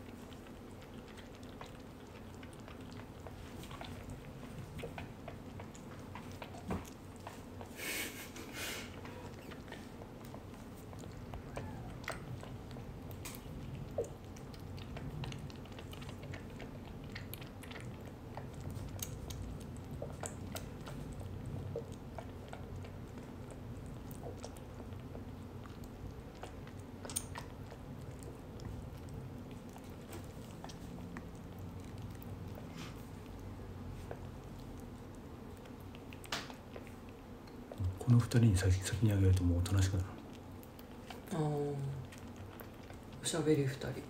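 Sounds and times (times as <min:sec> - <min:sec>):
kitten suckling from a bottle: 0:00.0 - 0:44.0.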